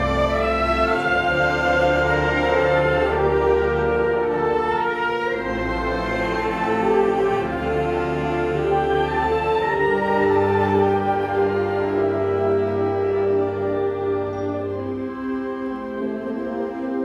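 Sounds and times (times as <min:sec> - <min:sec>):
tuba and double bass line: 0:00.0 - 0:17.0
woodwinds and brass held chords: 0:00.0 - 0:17.0.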